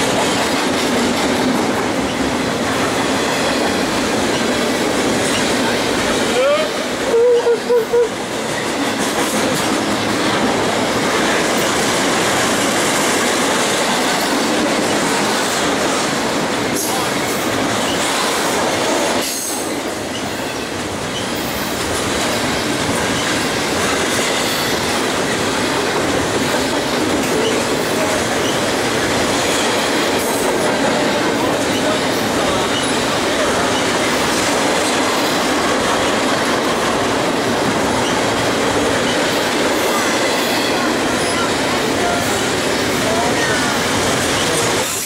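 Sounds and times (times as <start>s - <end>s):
train wheels on rails: 0.0s - 45.0s.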